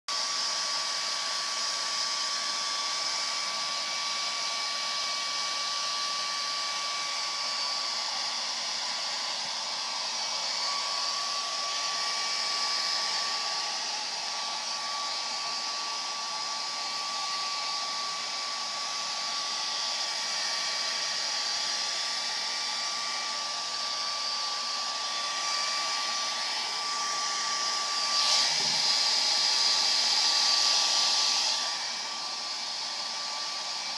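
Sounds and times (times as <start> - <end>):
hair dryer running: 0.1 - 33.9.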